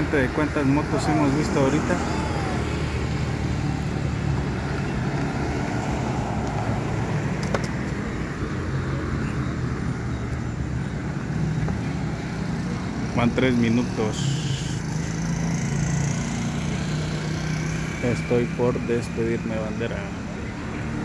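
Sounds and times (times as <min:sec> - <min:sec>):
cars and motorcycles humming: 0:00.0 - 0:21.0.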